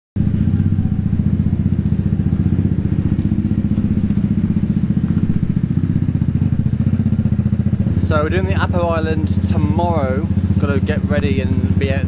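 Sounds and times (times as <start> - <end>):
motorbike engine idling: 0.2 - 12.0.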